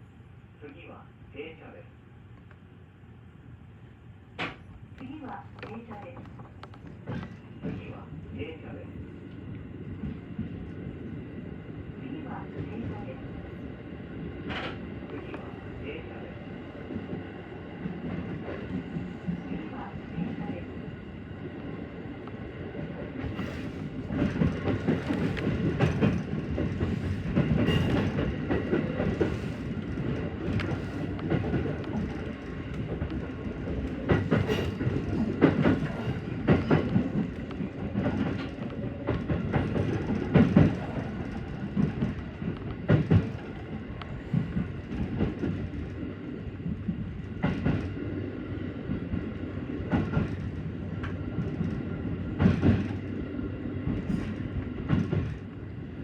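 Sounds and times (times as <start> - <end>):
train wheels rumbling on track: 4.3 - 56.0.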